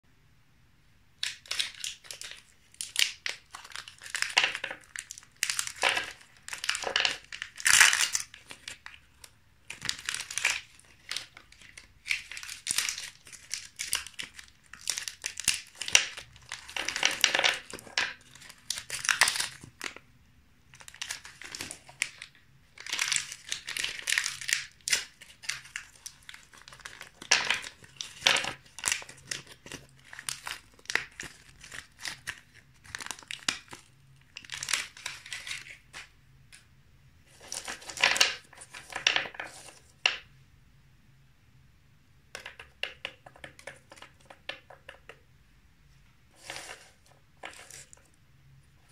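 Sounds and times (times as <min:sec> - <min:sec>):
candy wrapper crinkling: 0:01.2 - 0:20.1, 0:20.7 - 0:36.6, 0:37.3 - 0:40.2, 0:42.4 - 0:45.2, 0:46.3 - 0:48.9.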